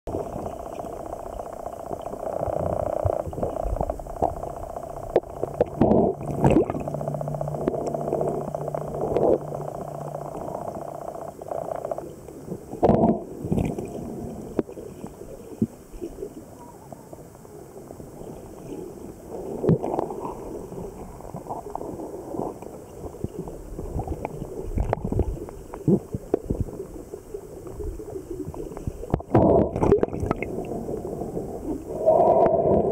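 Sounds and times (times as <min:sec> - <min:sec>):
steady hum: 0:00.1 - 0:32.9
underwater bubbling and gurgling: 0:00.1 - 0:32.9.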